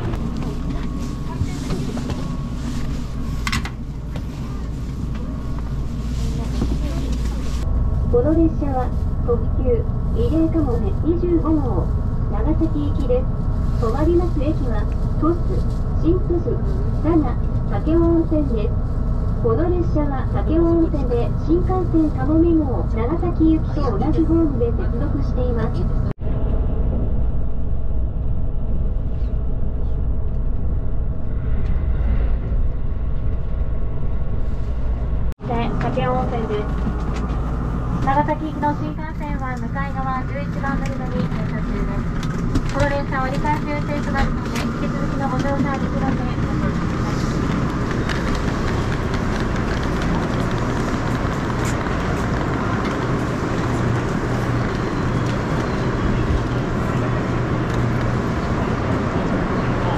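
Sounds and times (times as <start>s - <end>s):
train running inside passenger car: 0.0s - 59.9s.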